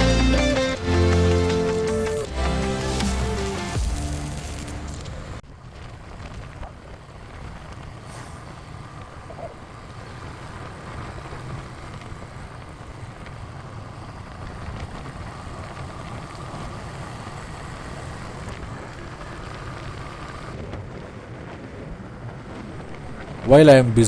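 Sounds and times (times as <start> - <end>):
motorcycle engine and road rumble: 0.0 - 23.5.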